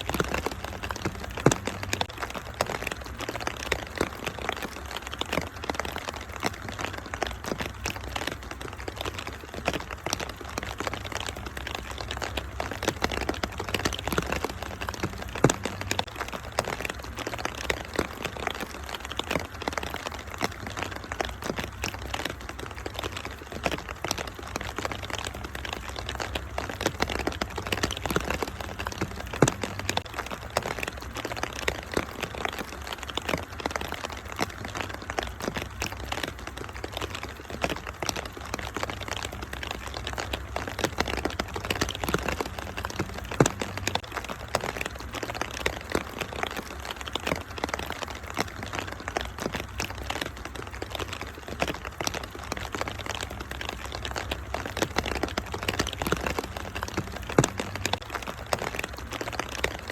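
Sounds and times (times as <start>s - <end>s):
rain hissing: 0.0s - 59.9s
wood fire crackling: 0.0s - 59.9s.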